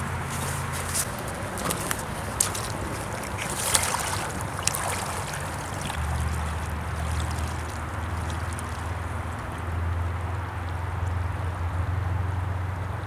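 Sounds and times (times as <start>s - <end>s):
water sloshing and splashing: 0.0s - 11.2s
low steady rumble: 0.0s - 13.0s.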